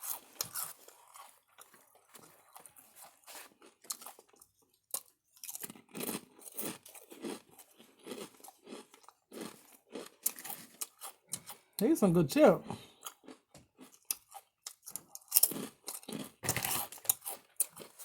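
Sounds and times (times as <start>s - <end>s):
person chewing crunchy chips: 0.0s - 11.8s, 12.6s - 18.0s.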